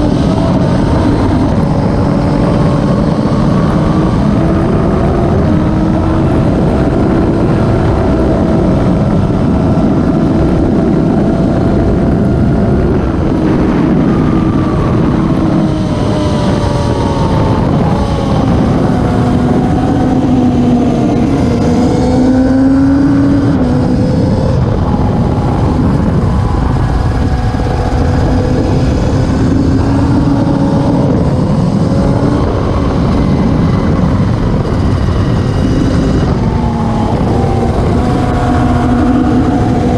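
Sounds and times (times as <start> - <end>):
racing motorcycles revving: 0.0 - 39.9.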